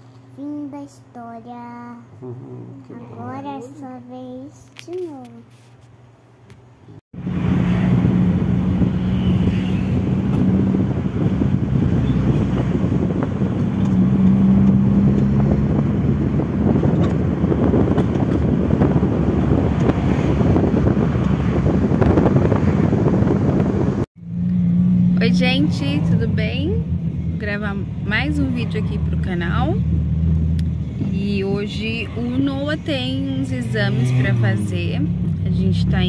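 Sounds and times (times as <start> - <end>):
road and wind noise: 3.0 - 36.0
low engine hum: 6.9 - 36.0.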